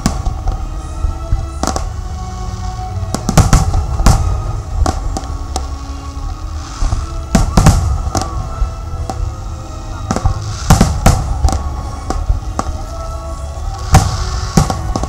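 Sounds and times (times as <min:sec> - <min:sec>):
fireworks bursting with bangs: 0:00.0 - 0:15.0
music: 0:00.0 - 0:15.0.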